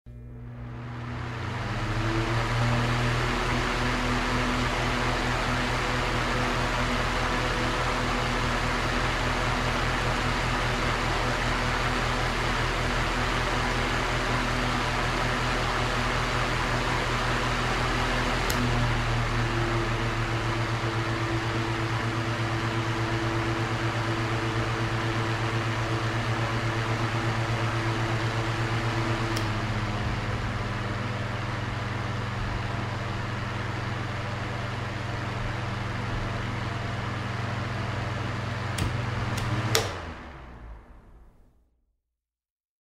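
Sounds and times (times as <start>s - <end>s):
electric fan whirring: 0.1s - 41.5s.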